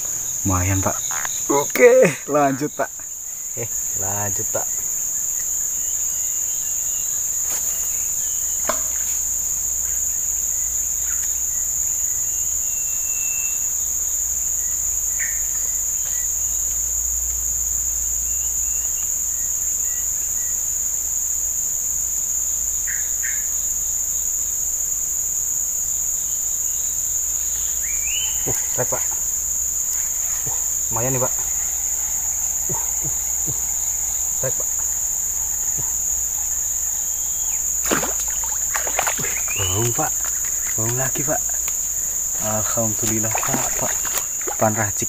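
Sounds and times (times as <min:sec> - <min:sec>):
insects buzzing: 0:00.0 - 0:45.0.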